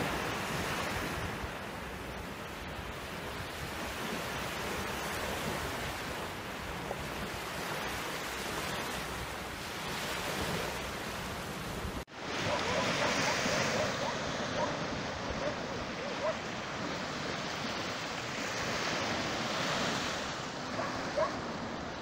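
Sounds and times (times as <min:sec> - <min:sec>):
waves washing on beach: 0:00.0 - 0:22.0.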